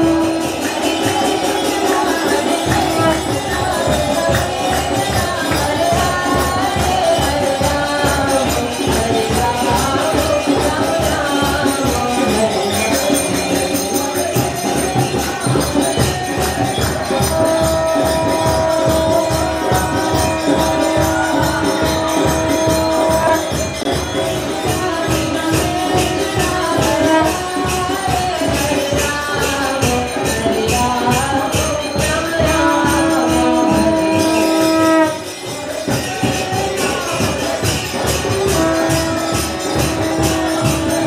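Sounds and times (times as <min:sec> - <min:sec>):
devotional music: 0:00.0 - 0:41.0
jingling percussion and drum: 0:00.0 - 0:41.0.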